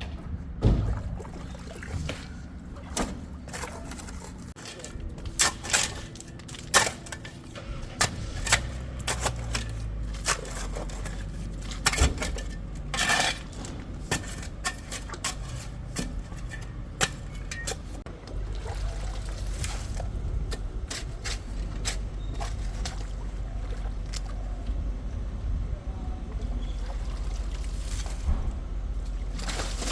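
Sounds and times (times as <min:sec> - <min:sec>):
low engine rumble: 0:00.0 - 0:29.9.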